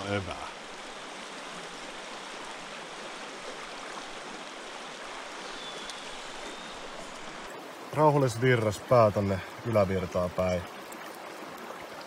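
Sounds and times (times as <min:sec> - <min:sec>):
river rapid flowing: 0:00.0 - 0:12.0.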